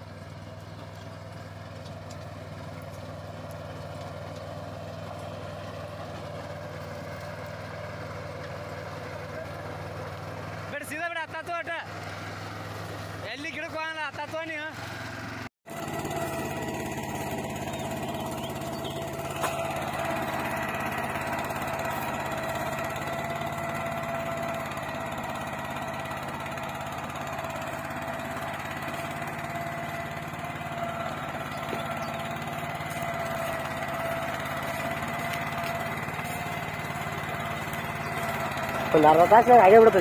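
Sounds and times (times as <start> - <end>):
tractor engine running under load: 0.0 - 40.0.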